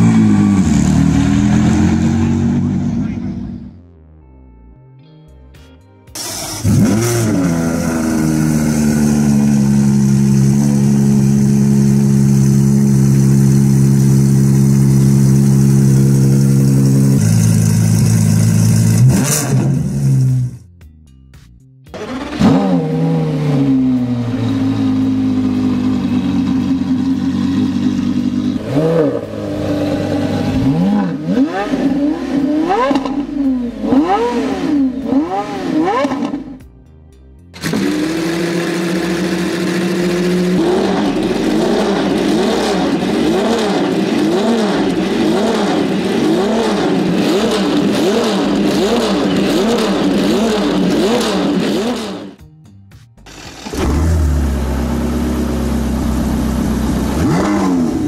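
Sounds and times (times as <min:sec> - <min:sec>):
racing car engine revving: 0:06.2 - 0:13.2, 0:14.7 - 0:20.6, 0:21.9 - 0:36.6, 0:37.6 - 0:52.4, 0:53.3 - 0:58.0
sports car engine revving: 0:06.2 - 0:20.6, 0:22.0 - 0:36.6, 0:37.6 - 0:52.4, 0:53.3 - 0:58.0.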